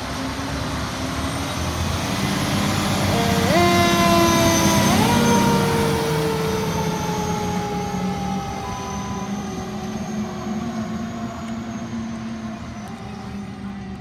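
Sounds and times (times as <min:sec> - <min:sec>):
fire engine running: 0:00.0 - 0:14.0
fire engine siren sliding down: 0:00.0 - 0:14.0.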